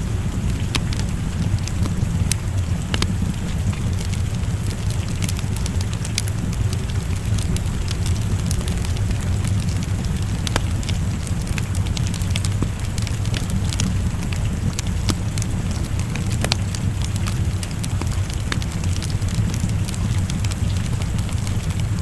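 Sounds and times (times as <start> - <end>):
rain hissing: 0.0 - 22.0
wood fire crackling and popping: 0.0 - 22.0.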